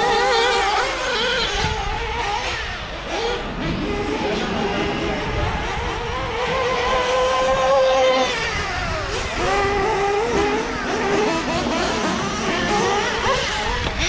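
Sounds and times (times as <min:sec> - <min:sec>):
small nitro engine whining: 0:00.0 - 0:14.0.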